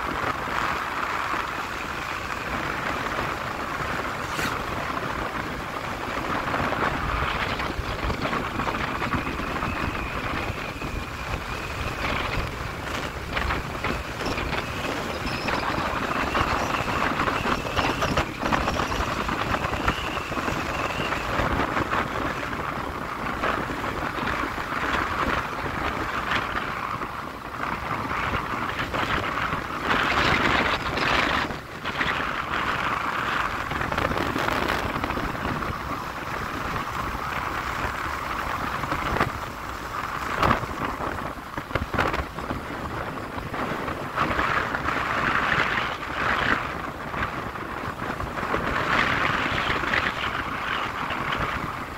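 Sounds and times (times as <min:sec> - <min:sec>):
vehicle road noise: 0:00.0 - 0:51.9
wind buffeting microphone: 0:00.0 - 0:51.9.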